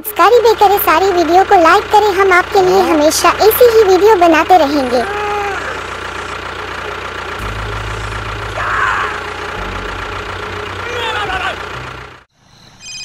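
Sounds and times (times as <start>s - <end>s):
tractor engine idling: 0.0s - 12.3s.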